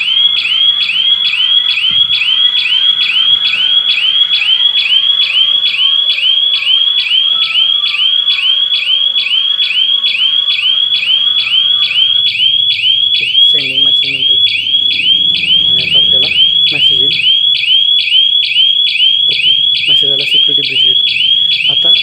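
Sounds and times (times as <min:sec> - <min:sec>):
burglar alarm siren chirping: 0:00.0 - 0:22.0.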